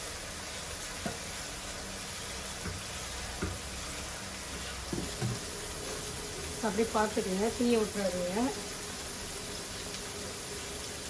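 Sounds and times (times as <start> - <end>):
masala sizzling in a wok: 0.0 - 11.0.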